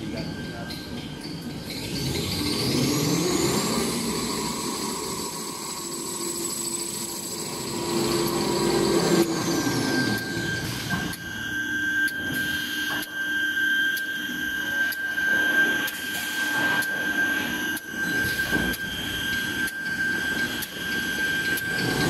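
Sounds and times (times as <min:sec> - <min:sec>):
low steady machine tone: 0:00.0 - 0:22.0
machine high whine: 0:00.0 - 0:22.0.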